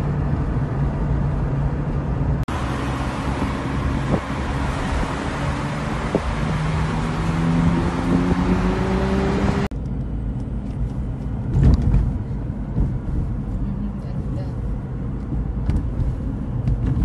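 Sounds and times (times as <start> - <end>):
car engine hum: 0.0 - 17.0
road and wind noise in car: 0.0 - 17.0.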